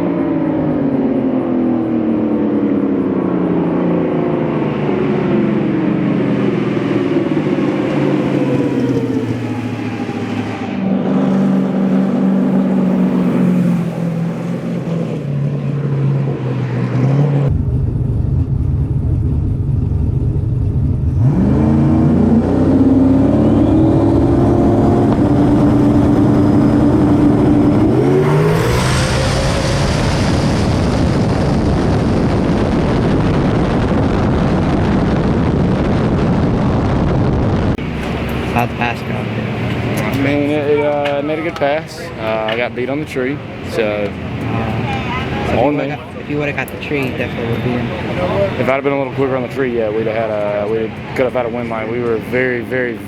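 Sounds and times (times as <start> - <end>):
drag race car engine revving: 0.0 - 53.0
loud rush of noise: 0.0 - 53.0.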